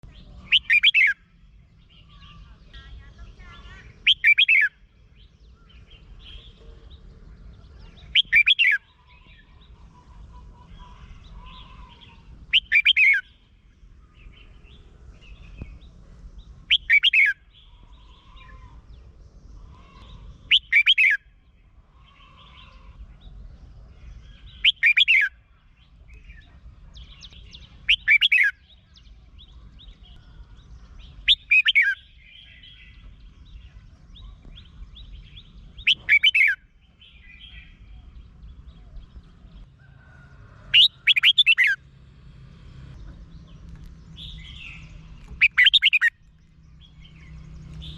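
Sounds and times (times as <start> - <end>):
faint bird chirps: 0.0 - 15.9, 16.7 - 41.8, 43.0 - 47.9
bird singing: 0.0 - 47.9.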